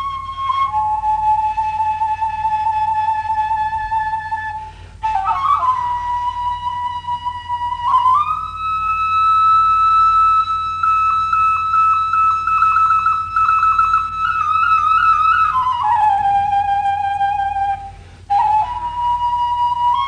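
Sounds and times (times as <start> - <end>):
wooden flute melody: 0.0 - 20.0.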